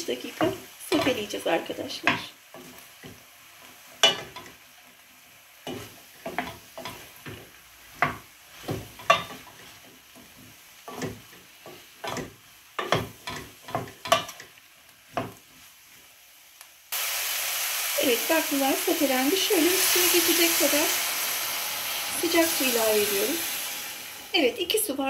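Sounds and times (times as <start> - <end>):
beans sizzling in oil: 0.0 - 25.0.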